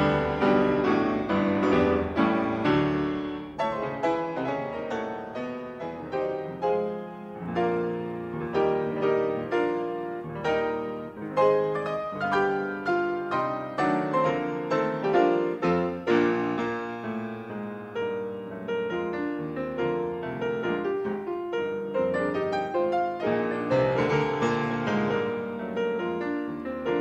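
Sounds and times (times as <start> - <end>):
solo piano music: 0.0 - 27.0.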